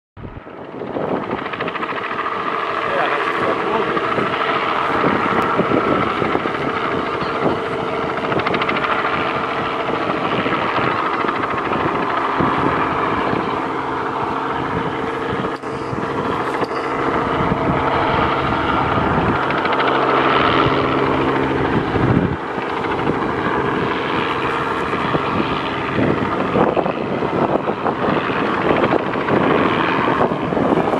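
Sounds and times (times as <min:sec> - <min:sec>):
helicopter engine and rotor drone: 0:00.2 - 0:30.9.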